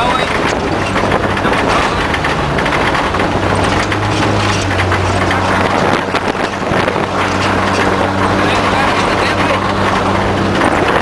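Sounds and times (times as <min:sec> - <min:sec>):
tyres on gravel road: 0:00.0 - 0:11.0
vehicle engine hum: 0:00.0 - 0:11.0.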